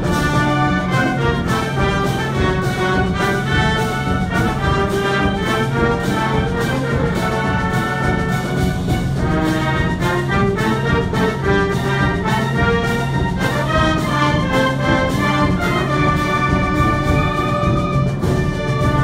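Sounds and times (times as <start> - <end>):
wind band playing pasodoble: 0.0 - 19.0.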